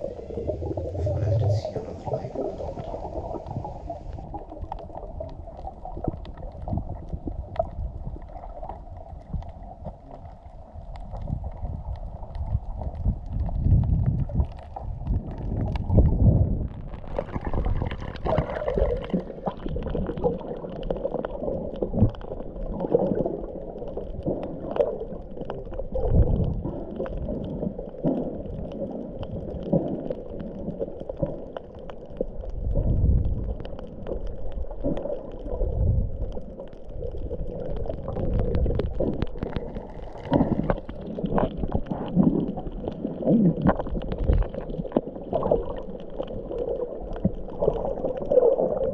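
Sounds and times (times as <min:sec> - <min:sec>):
low underwater rumble: 0:00.0 - 0:48.9
muffled underwater gurgling: 0:00.0 - 0:48.9.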